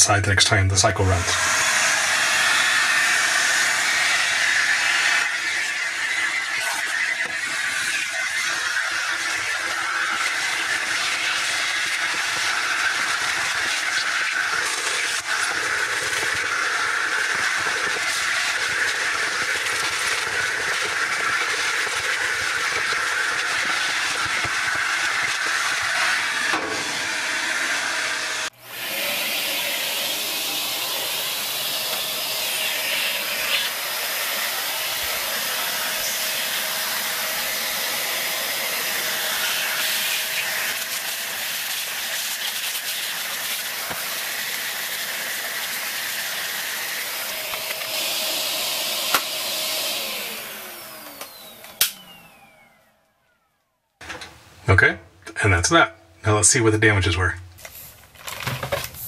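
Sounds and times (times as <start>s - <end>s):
vacuum cleaner running: 0.0s - 54.3s.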